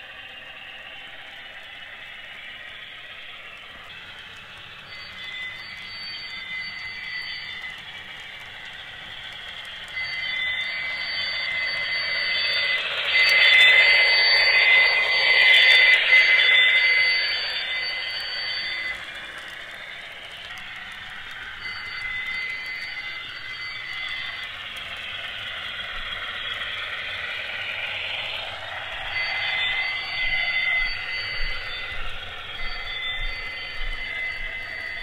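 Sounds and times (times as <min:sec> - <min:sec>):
model train running on track: 0:00.0 - 0:35.0
steady high whine: 0:00.0 - 0:35.0.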